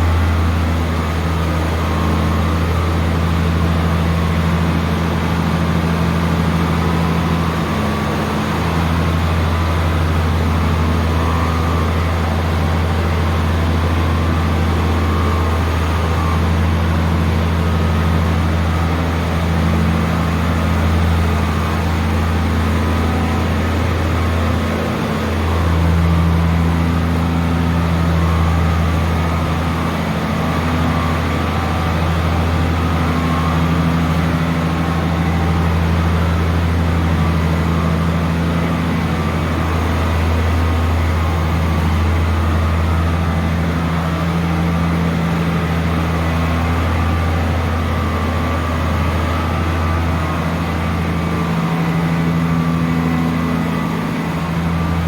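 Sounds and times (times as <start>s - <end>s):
harvester engine running: 0.0s - 55.0s.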